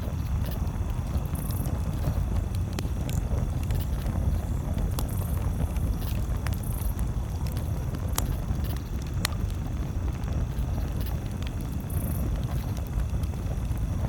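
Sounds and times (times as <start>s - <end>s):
campfire crackling: 0.0s - 14.0s
low fire rumble: 0.0s - 14.0s
sharp fire pops: 0.0s - 14.0s.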